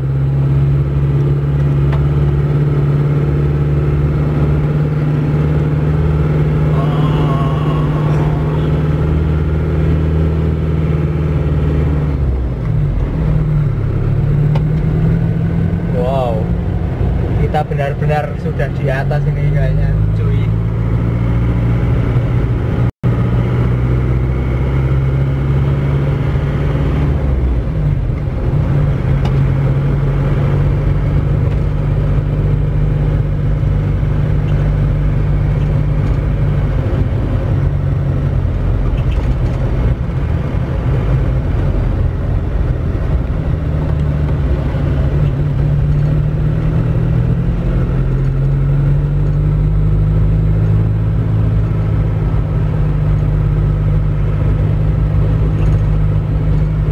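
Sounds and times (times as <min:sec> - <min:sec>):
car engine: 0:00.0 - 0:56.9
road noise inside car: 0:00.0 - 0:56.9.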